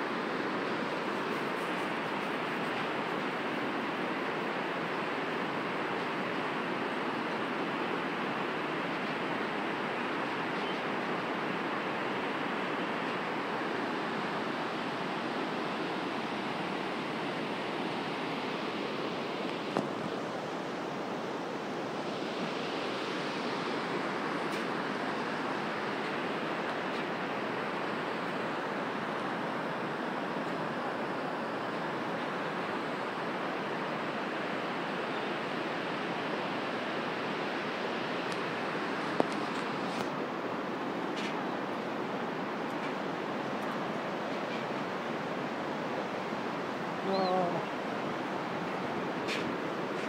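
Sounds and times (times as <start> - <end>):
river rapids rushing: 0.0 - 50.0.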